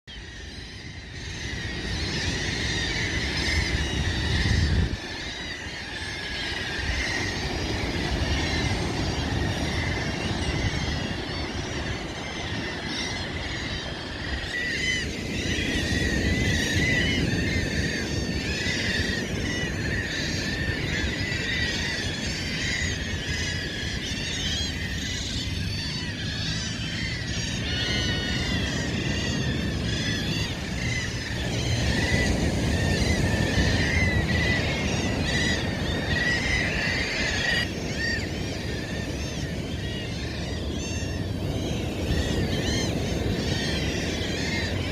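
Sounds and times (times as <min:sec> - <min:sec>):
flock of birds calling: 0:00.1 - 0:44.9.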